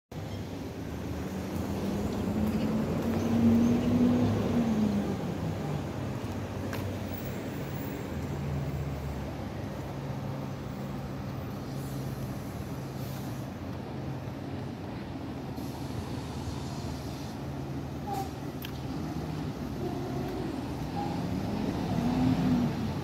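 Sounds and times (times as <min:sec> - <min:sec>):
engine humming: 0:00.2 - 0:23.0.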